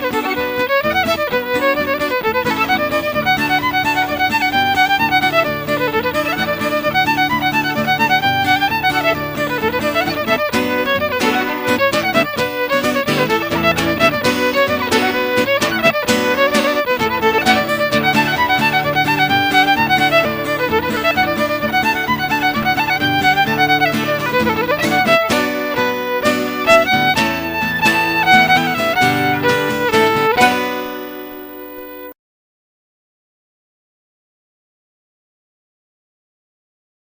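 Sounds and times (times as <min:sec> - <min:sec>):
fiddle playing quick tune: 0:00.0 - 0:32.1.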